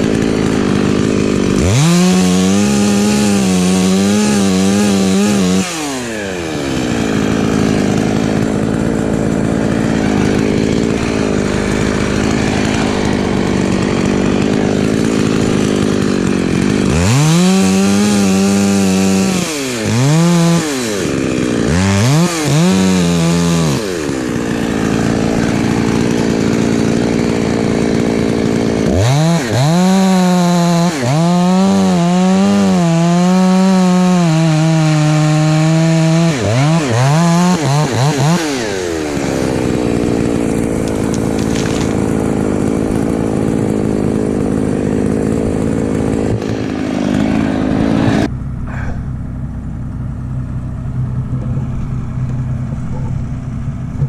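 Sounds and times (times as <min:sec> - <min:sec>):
chainsaw revving: 0:00.0 - 0:49.0.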